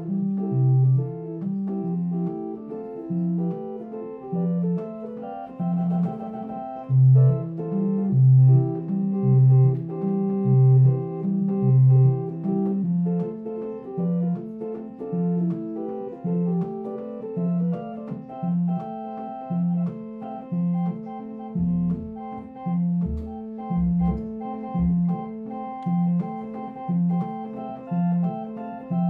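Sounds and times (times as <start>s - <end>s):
organ playing blues: 0.0s - 29.0s.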